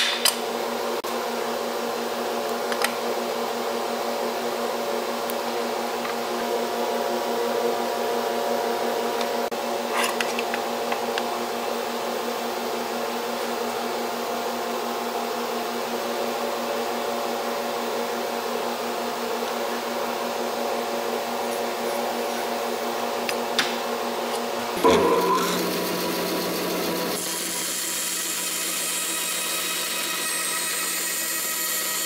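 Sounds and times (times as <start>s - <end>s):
machine hum with fan whir: 0.0s - 32.0s.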